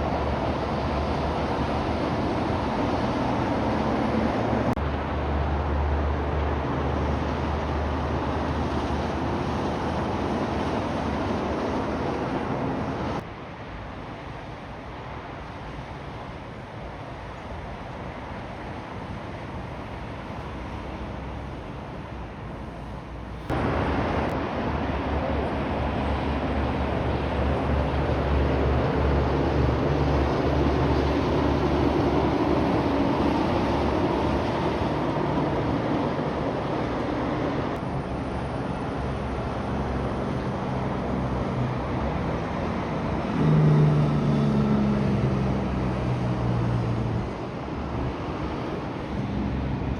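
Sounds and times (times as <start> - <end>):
quiet road noise: 0.0 - 49.9
trucks driving past: 0.0 - 49.9.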